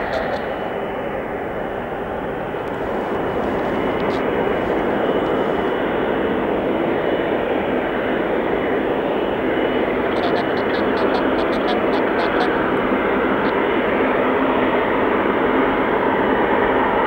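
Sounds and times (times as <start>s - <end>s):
high jet engine whine: 0.0s - 17.0s
jet engines rumbling: 0.0s - 17.0s.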